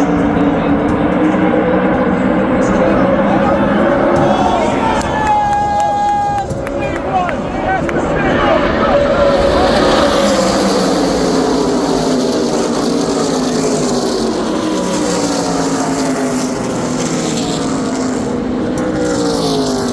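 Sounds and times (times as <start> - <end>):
race truck engines: 0.0 - 19.9.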